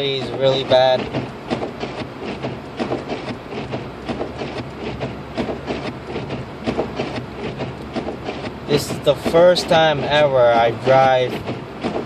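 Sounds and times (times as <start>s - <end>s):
low car cabin drone: 0.0s - 12.0s
rapid irregular ticking and clicking: 0.0s - 12.0s.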